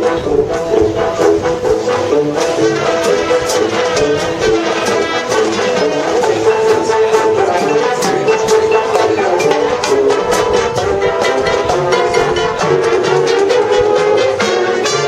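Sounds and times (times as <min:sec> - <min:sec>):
brass chords: 0:00.0 - 0:15.0.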